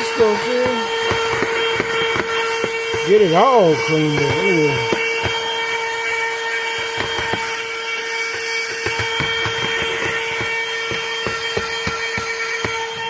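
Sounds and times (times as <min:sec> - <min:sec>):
vacuum cleaner whine: 0:00.0 - 0:13.0.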